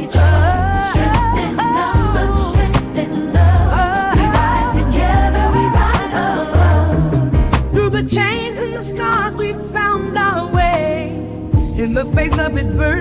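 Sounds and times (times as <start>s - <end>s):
song with heavy bass and drums: 0.0s - 13.0s.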